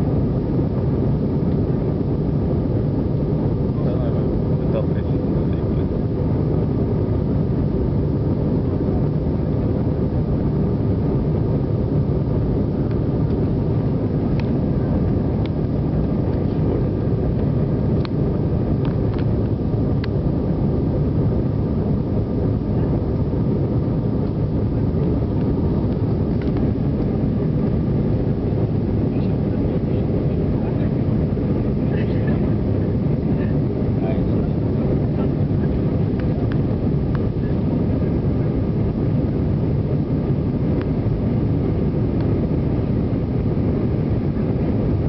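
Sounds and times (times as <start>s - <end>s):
jet engines roaring in cabin: 0.0s - 45.0s.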